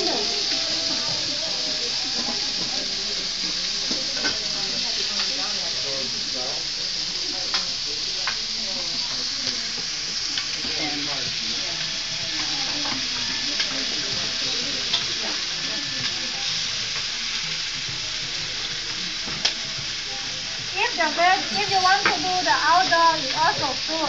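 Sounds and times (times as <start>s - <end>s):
chicken sizzling in pans: 0.0s - 24.0s
utensils clicking against pans: 0.0s - 24.0s.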